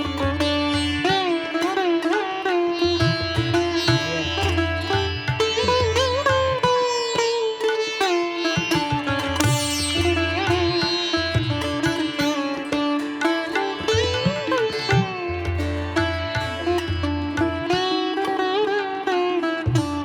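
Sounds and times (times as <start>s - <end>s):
plucked string melody: 0.0s - 20.0s.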